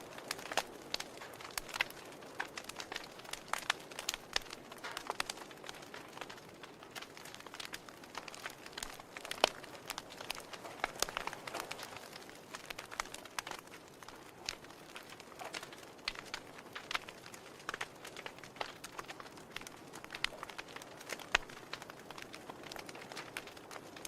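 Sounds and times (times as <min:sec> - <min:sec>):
soft steady hiss: 0:00.0 - 0:24.0
wood fire crackling and popping: 0:00.0 - 0:24.0.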